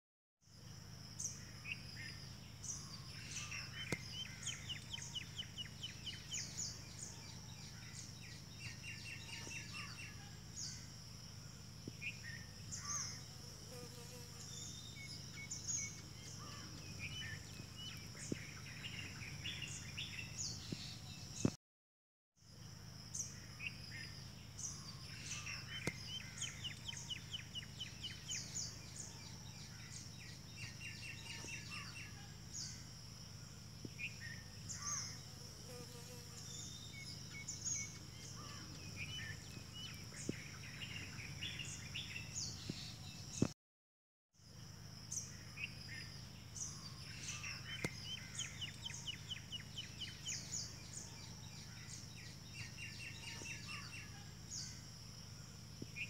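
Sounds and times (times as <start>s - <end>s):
birds chirping and trilling: 1.2s - 10.9s, 12.0s - 21.6s, 23.2s - 32.8s, 34.0s - 43.5s, 45.1s - 54.8s.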